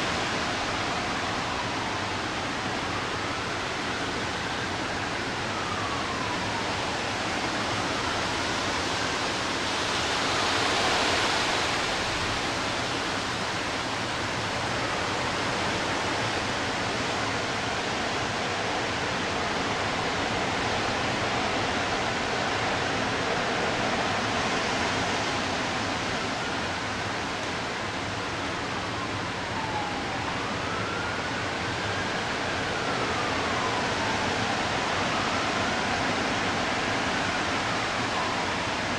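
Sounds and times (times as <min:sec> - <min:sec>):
distant warning siren wailing: 0:00.0 - 0:38.9
rain: 0:00.0 - 0:38.9
storm wind: 0:00.0 - 0:38.9.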